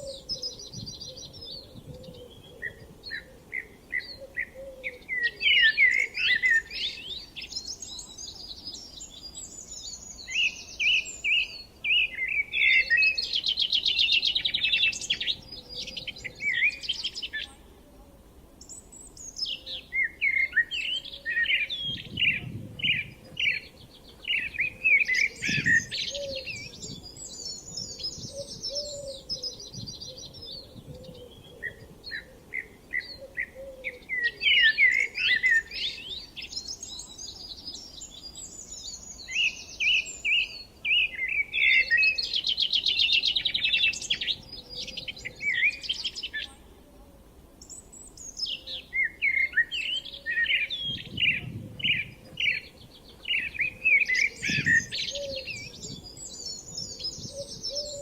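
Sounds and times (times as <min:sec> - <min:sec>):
faint low background noise: 0:00.0 - 0:58.0
songbirds chirping and trilling: 0:00.0 - 0:58.0.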